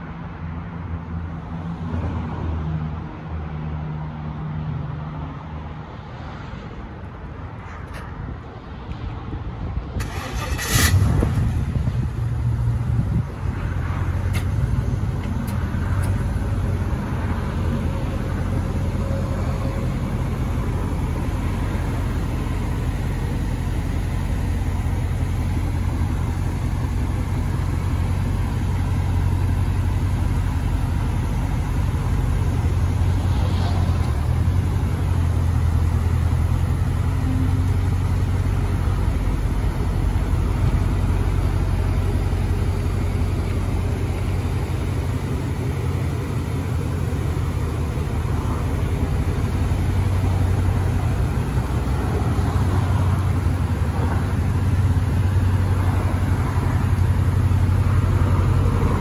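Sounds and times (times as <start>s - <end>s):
car engine idling: 10.0s - 59.0s.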